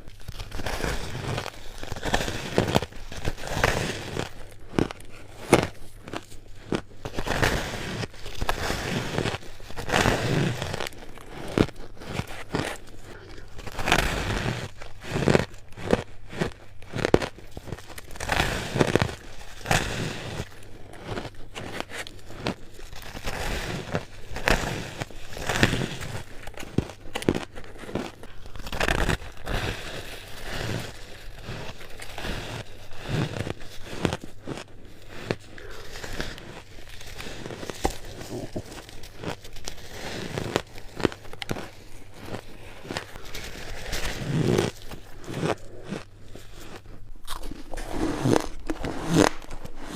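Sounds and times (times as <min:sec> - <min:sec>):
ice being chewed: 0:00.0 - 0:49.9.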